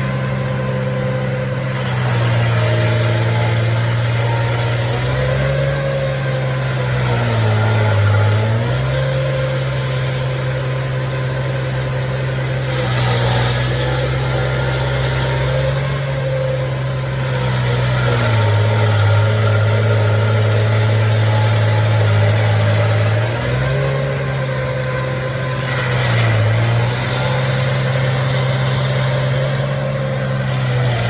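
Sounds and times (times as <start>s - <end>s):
stump grinder engine running: 0.0s - 31.0s.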